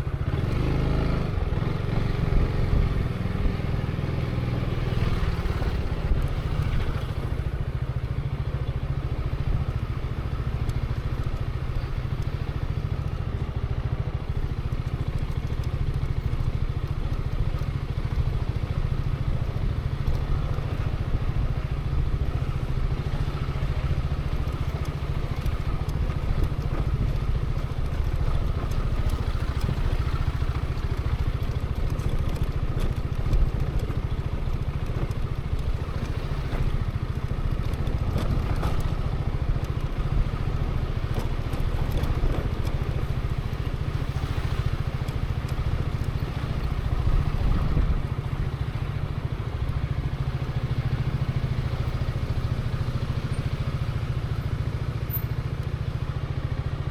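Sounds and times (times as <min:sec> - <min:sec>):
scooter engine running: 0:00.0 - 0:56.9.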